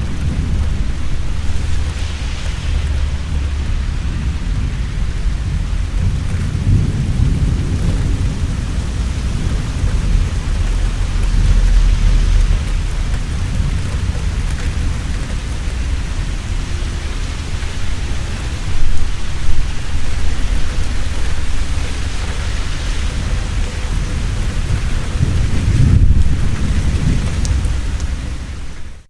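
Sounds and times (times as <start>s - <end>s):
heavy rain: 0.0s - 29.0s
thunder rumbling: 0.0s - 29.0s.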